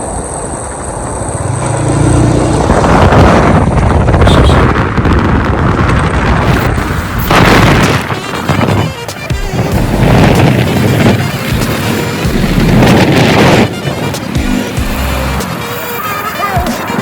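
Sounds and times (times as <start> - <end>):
wind buffeting microphone: 0.0 - 15.8
rumbling road noise: 0.0 - 17.0.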